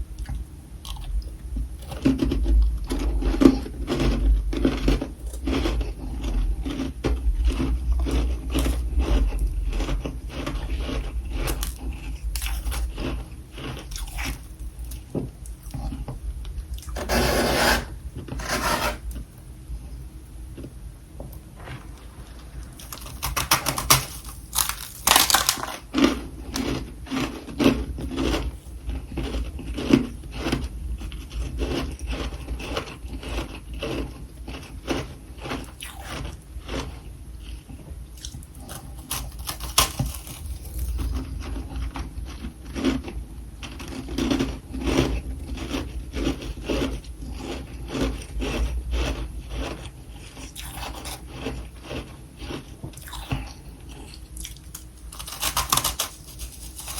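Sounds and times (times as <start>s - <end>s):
faint low hum: 0.0s - 56.9s
close-up crunching and scraping: 0.2s - 56.9s.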